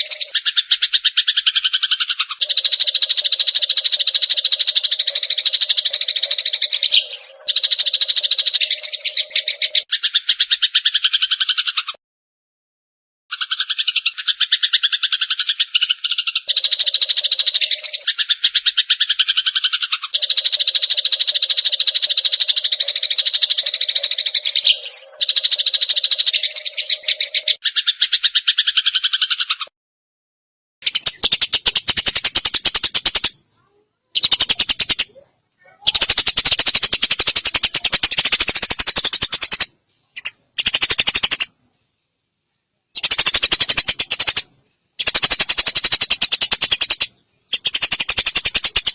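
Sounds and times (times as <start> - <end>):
sparrows chattering: 0.0 - 12.0, 13.3 - 29.7, 30.8 - 41.5, 43.0 - 48.9.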